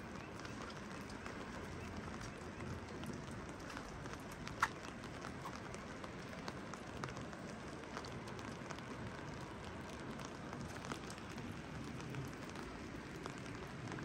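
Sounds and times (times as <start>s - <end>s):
raindrops ticking on hard surfaces: 0.0s - 14.0s
steady rain: 0.0s - 14.0s.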